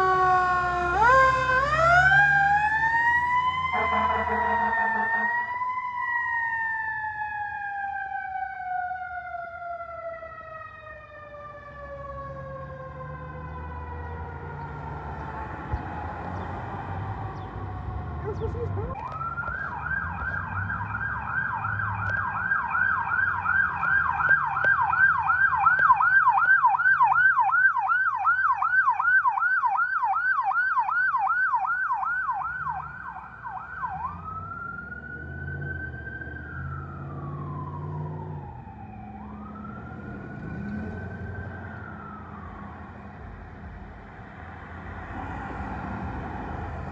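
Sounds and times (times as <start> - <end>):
ambulance siren: 0.0 - 46.9
engine and road noise: 0.0 - 46.9.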